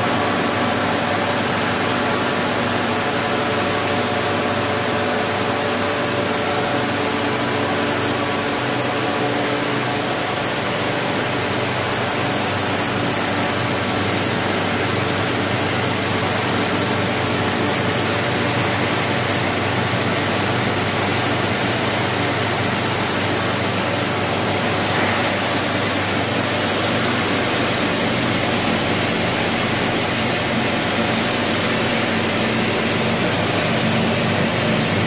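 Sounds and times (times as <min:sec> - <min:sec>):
recycling machinery running: 0:00.0 - 0:35.0.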